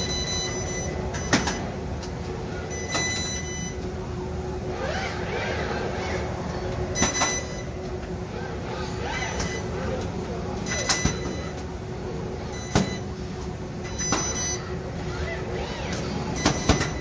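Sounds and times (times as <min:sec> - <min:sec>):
constant machine hum: 0:00.0 - 0:17.0.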